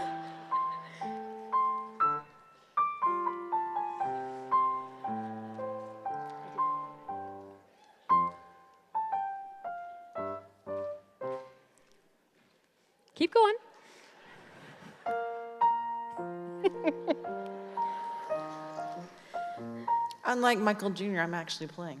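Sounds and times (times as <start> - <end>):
slow piano tune: 0.0 - 11.9, 14.8 - 20.9.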